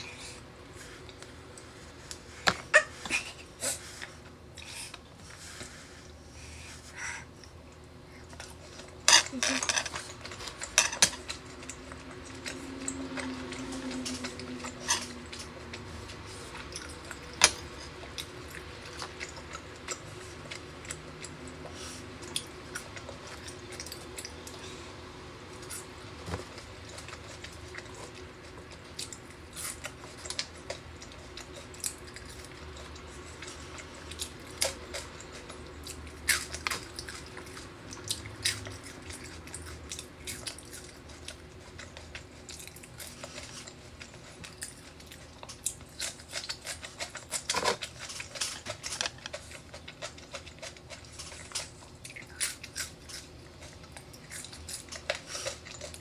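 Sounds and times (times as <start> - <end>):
chewing with mouth clicks: 7.3 - 56.0.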